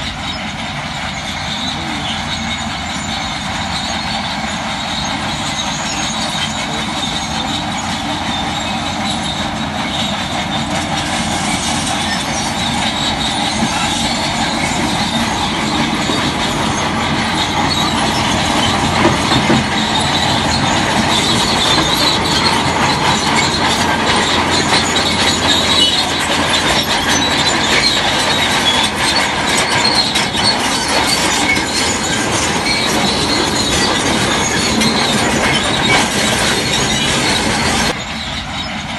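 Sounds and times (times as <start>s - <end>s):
bulldozer diesel engine: 0.0s - 38.9s
track chain clanking and squealing: 0.0s - 38.9s.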